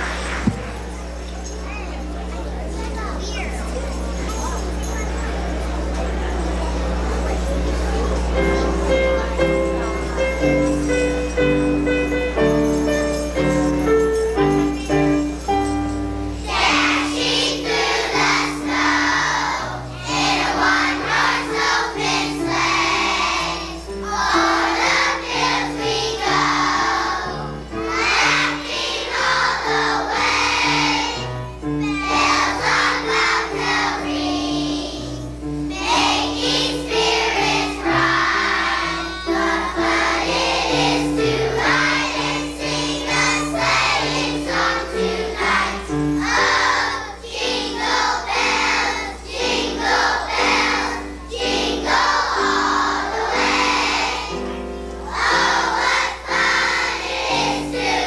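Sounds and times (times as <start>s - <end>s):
children's choir singing: 0.0s - 1.5s, 4.9s - 58.0s
instrumental accompaniment: 0.0s - 58.0s.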